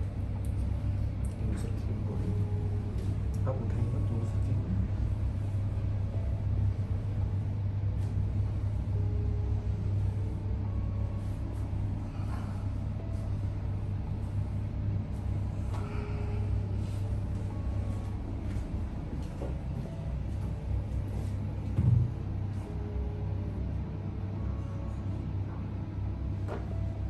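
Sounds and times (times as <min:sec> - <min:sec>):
low background rumble and hum: 0:00.0 - 0:27.0.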